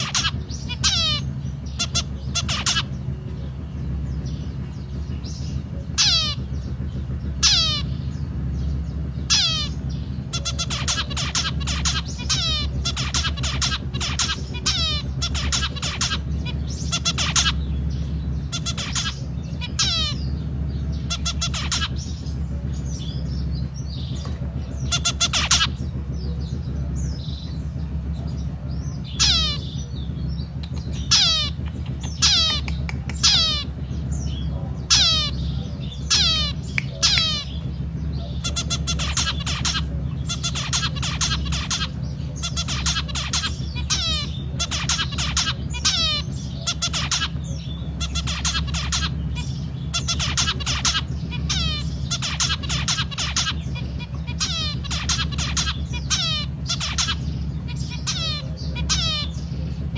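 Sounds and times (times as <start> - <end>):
finch calling and singing: 0.0 - 59.9
steady low hum: 0.0 - 59.9.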